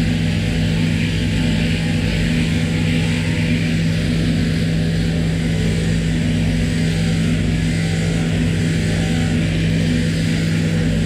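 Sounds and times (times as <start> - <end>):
electric shearing machine humming: 0.0 - 11.0.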